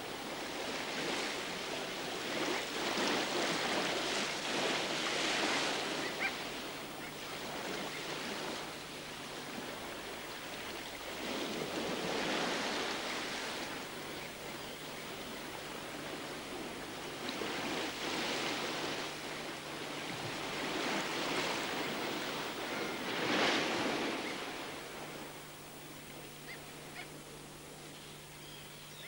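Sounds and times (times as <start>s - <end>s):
surf washing up a beach: 0.0s - 28.0s.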